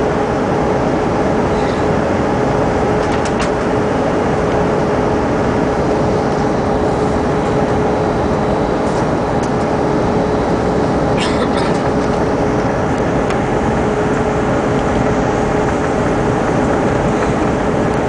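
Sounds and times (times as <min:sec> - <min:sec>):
airplane cabin airflow rush: 0:00.0 - 0:18.0
constant hum: 0:00.0 - 0:18.0.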